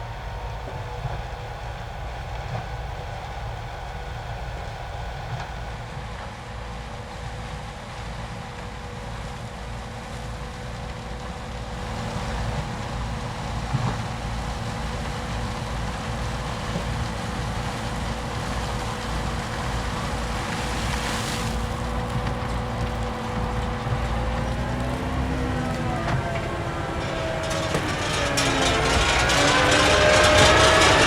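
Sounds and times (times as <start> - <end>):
harvester engine drone and whine: 0.0 - 31.0.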